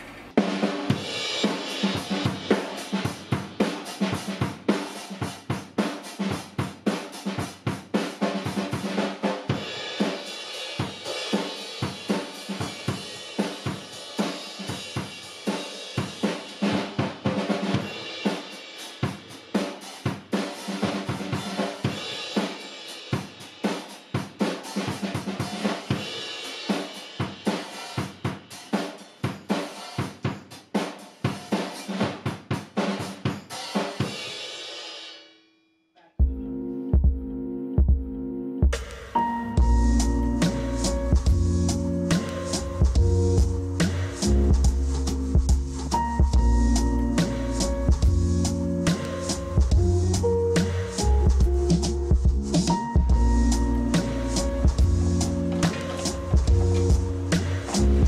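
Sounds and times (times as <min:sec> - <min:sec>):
acoustic drum kit groove: 0:00.0 - 0:35.2, 0:36.2 - 0:58.0.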